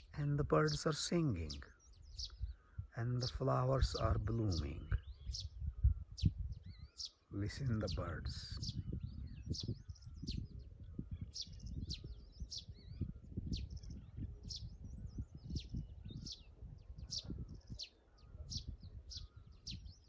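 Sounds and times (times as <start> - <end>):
bird warbling calls: 0.0 - 20.0
birds chirping: 0.0 - 20.0
wind rumble on microphone: 0.0 - 20.0.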